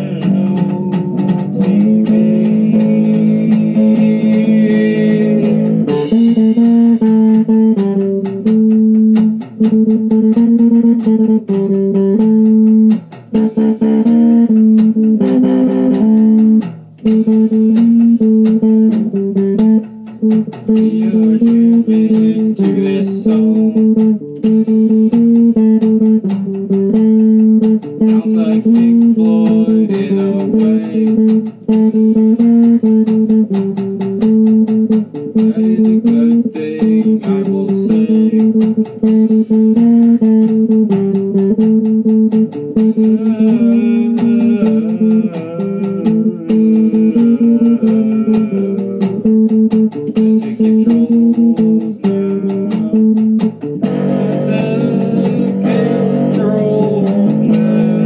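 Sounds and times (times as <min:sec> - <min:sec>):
drums: 0:00.0 - 0:58.0
guitar riff: 0:00.0 - 0:58.0.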